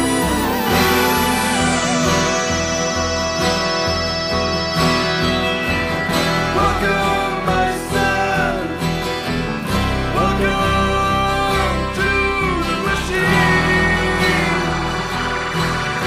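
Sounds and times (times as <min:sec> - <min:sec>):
acoustic guitar: 0:00.0 - 0:16.0
person singing: 0:00.0 - 0:16.0.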